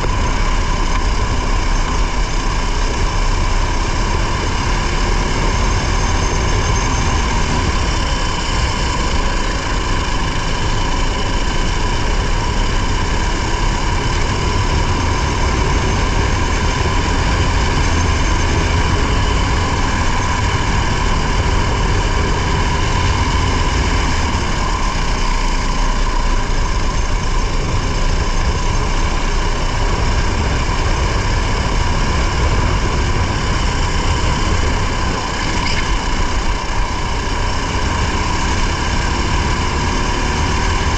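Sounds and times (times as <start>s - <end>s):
low rumble from ground: 0.0s - 40.9s
race car engine running: 0.0s - 40.9s.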